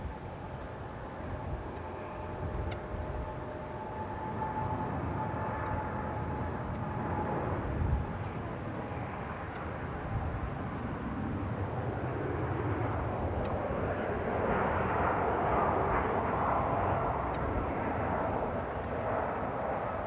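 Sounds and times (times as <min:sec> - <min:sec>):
faint engine whine: 0:00.0 - 0:20.0.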